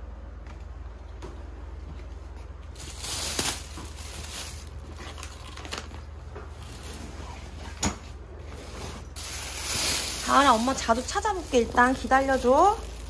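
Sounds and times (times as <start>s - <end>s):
bags rustling and crinkling: 2.1s - 13.0s.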